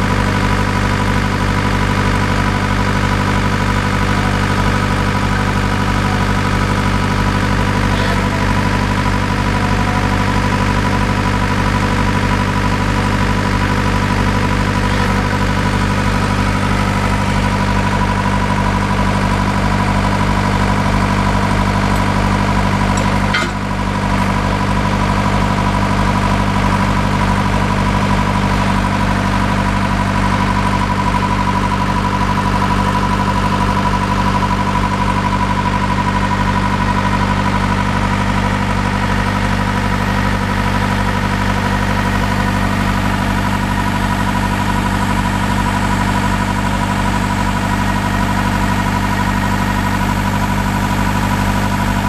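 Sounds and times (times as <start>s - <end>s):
constant whine: 0.0s - 24.7s, 25.3s - 52.0s
drilling rig engine running: 0.0s - 52.0s.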